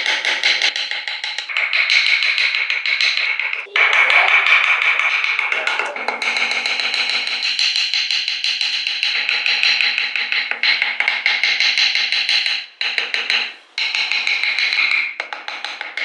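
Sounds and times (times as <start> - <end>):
carving tool tapping wood: 0.0 - 3.6, 4.5 - 16.0.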